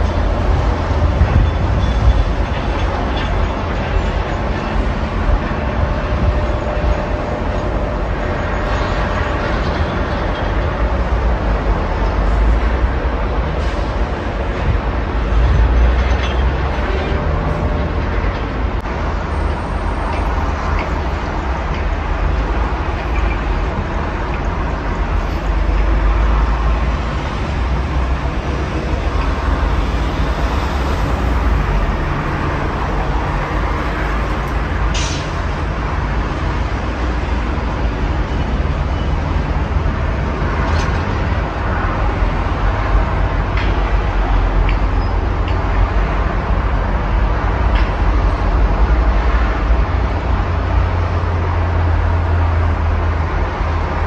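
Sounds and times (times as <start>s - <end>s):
highway traffic rumble: 0.0s - 54.0s.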